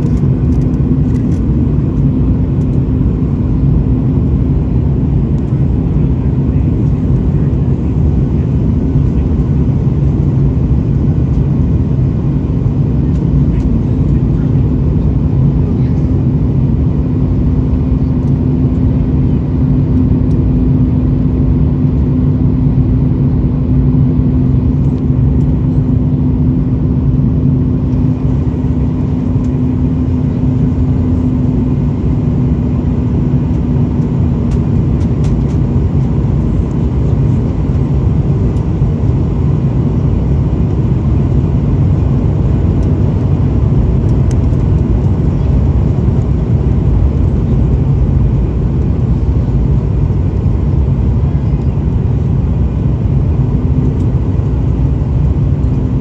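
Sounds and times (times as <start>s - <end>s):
airliner engines and rushing air: 0.0s - 56.0s
steady hum: 0.0s - 56.0s.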